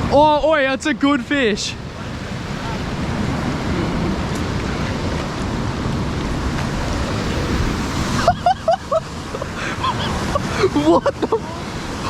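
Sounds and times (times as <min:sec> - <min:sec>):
creek rapids rushing: 0:00.0 - 0:12.0.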